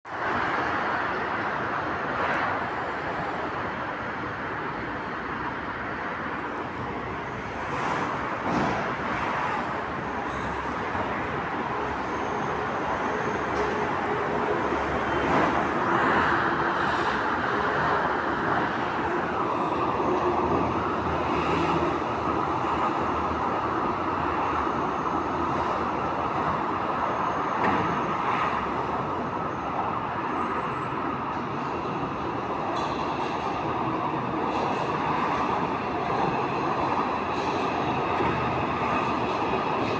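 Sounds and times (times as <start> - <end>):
metro train rumbling: 0.1 - 39.9.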